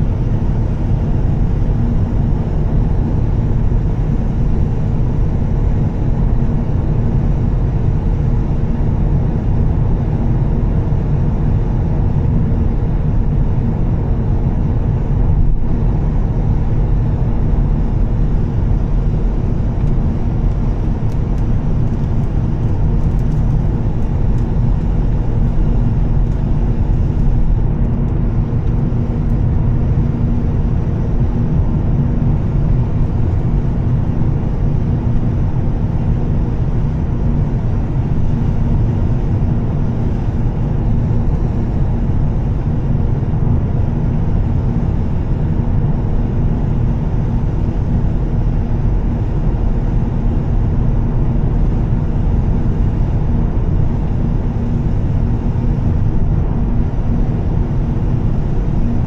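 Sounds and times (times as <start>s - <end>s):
road rumble: 0.0s - 59.0s.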